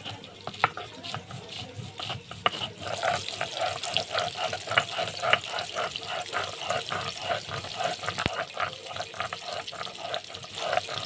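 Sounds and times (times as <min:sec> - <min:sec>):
fish sizzling in oil: 0:00.0 - 0:11.0
grinding stone strokes: 0:00.0 - 0:11.0
knocks on grinding stone: 0:00.0 - 0:11.0.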